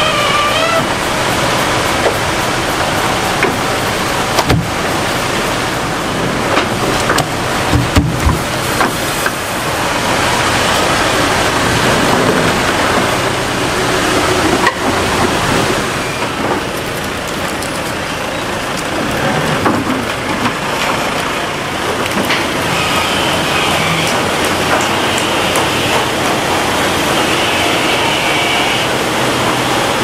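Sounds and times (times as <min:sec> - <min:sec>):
forklift engine running: 0:00.0 - 0:30.0.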